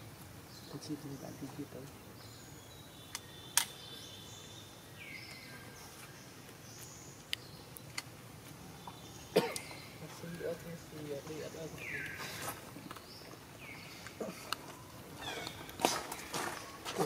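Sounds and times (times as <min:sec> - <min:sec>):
faint bird chirps: 0:00.5 - 0:08.0, 0:08.6 - 0:16.8.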